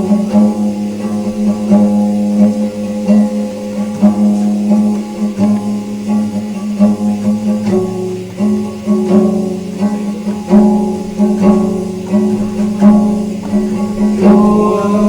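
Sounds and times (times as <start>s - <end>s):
slow blues guitar: 0.0s - 15.0s.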